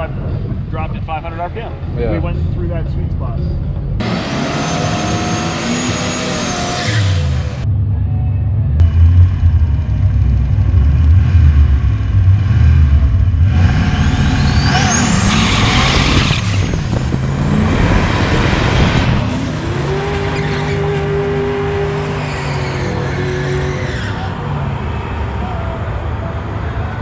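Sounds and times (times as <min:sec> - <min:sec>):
race car engine accelerating: 0:04.0 - 0:07.7, 0:08.8 - 0:27.0.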